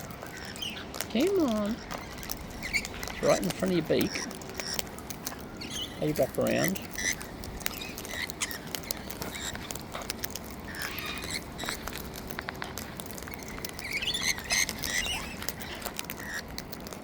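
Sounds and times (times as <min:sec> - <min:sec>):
birds pecking and cracking seed: 0:00.0 - 0:17.0.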